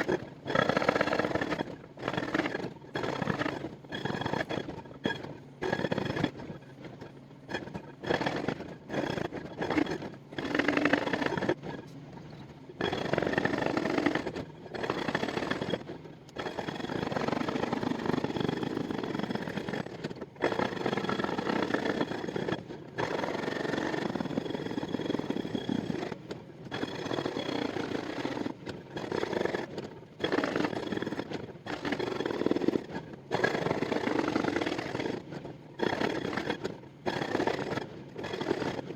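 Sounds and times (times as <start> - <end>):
hydraulic breaker pounding rock: 0.0 - 6.4, 7.5 - 11.6, 12.8 - 38.9.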